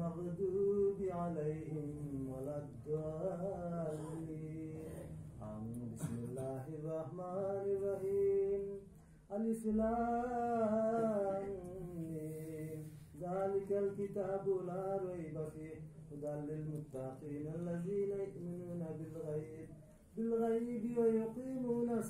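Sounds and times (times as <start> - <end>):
man chanting into microphone: 0.0 - 22.0.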